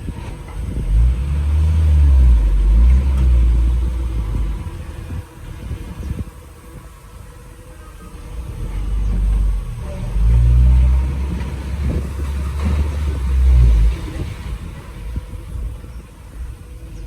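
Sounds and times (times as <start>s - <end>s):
heavy diesel engine revving: 0.0s - 17.0s.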